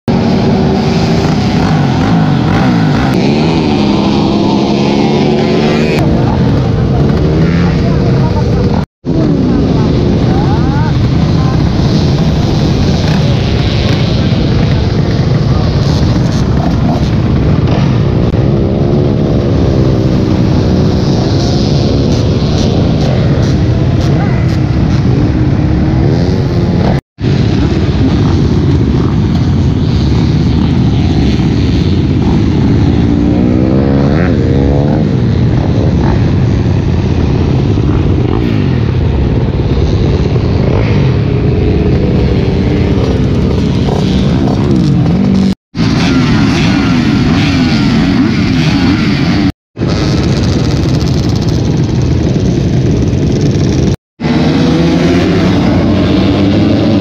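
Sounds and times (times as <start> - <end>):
motorbike engines revving: 0.0 - 57.0.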